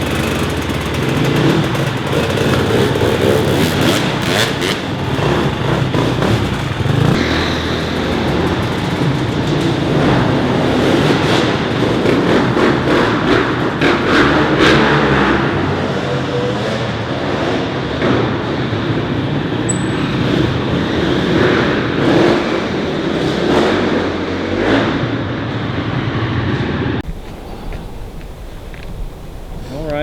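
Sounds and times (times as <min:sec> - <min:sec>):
dirt bike engine revving: 0:00.0 - 0:25.9, 0:27.0 - 0:30.0.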